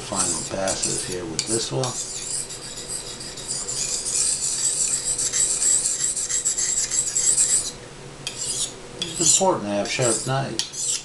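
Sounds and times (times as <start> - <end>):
knife scraping on sharpening stone: 0.2 - 11.0.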